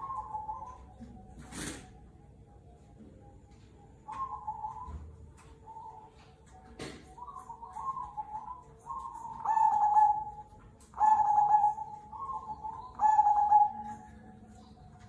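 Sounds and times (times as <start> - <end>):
dove cooing: 0.0 - 14.7.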